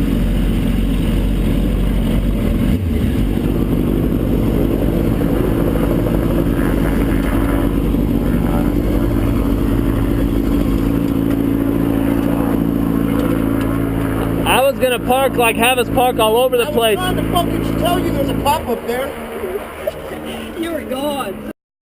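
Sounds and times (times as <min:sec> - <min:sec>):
vehicle engine at low speed: 0:00.0 - 0:21.5.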